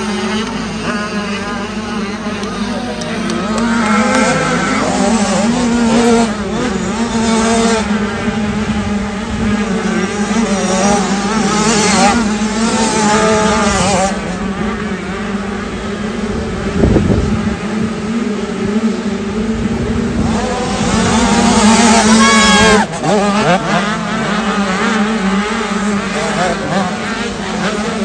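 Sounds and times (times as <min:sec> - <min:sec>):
motocross bikes revving: 0:00.0 - 0:28.0
steady low drone: 0:00.0 - 0:28.0.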